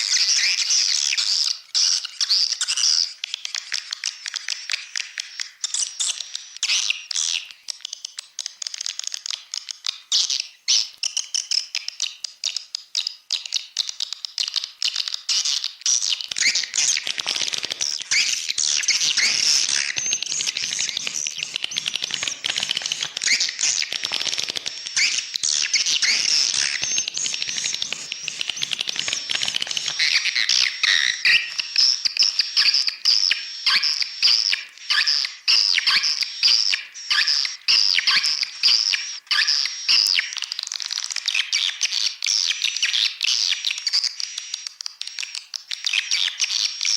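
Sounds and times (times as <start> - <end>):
swiftlets chirping and twittering: 0.0 - 12.6, 15.2 - 40.4.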